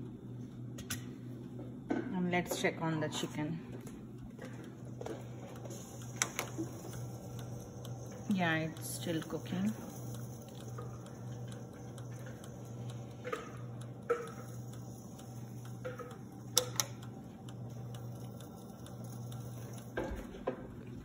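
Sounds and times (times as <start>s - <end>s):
air fryer fan humming: 0.0s - 21.0s.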